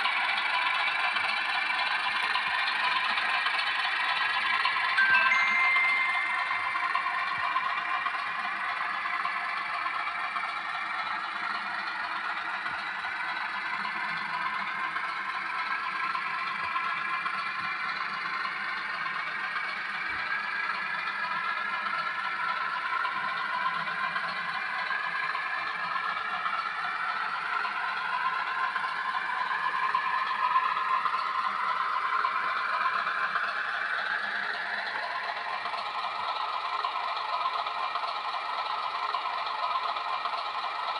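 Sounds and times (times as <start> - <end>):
model train whirring: 0.0 - 40.9.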